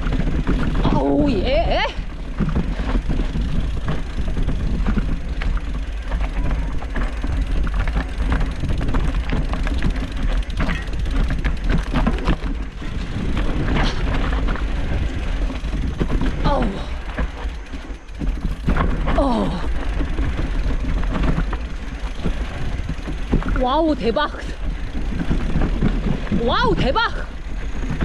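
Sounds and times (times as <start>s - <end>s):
low rumble: 0.0s - 28.0s
mountain bike rattling over stones: 0.0s - 28.0s.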